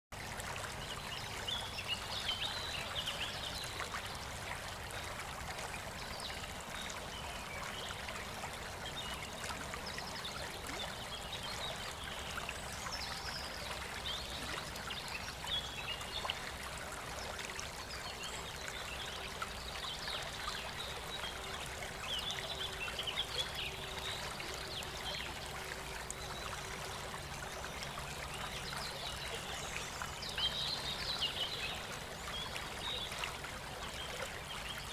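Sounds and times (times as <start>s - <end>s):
water running in a stream: 0.1s - 34.9s.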